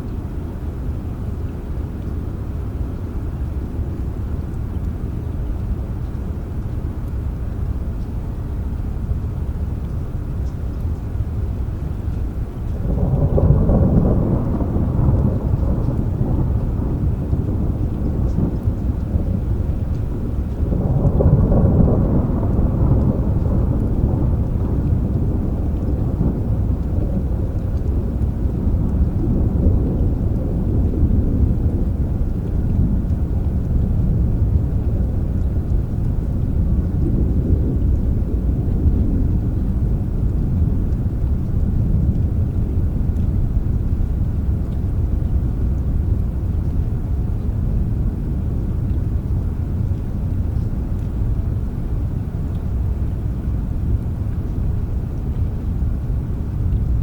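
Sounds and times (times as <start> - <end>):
rain: 0.0 - 57.0
rolling thunder: 11.0 - 57.0.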